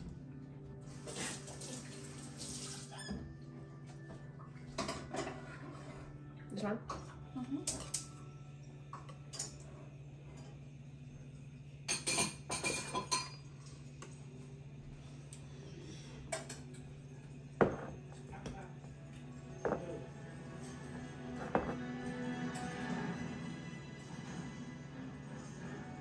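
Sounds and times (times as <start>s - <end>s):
background music with sustained tones: 0.0s - 26.0s.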